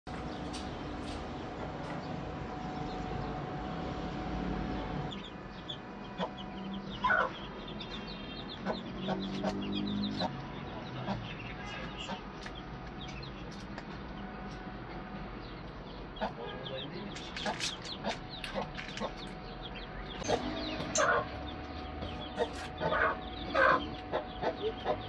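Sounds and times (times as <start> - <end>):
steady hum: 0.1 - 9.5, 10.3 - 25.0
birds chirping and clucking: 0.1 - 25.0.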